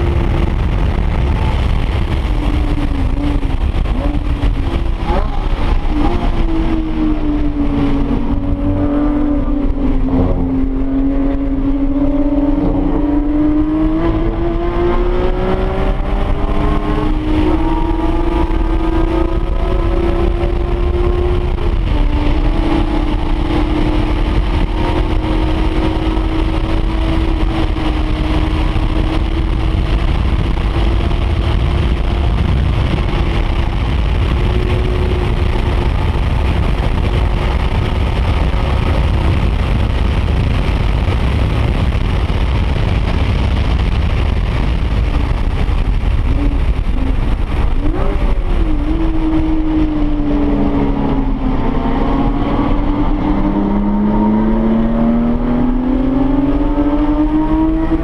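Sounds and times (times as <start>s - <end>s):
car engine at high pitch: 0.0s - 58.0s
wind and road rumble: 0.0s - 58.0s.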